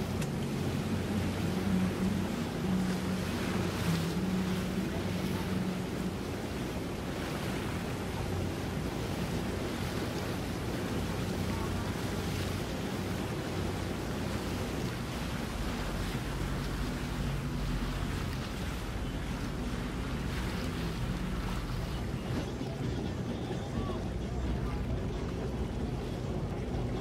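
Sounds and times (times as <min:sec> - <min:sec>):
motorboat engines humming: 0:00.0 - 0:27.0
water wash: 0:00.0 - 0:27.0.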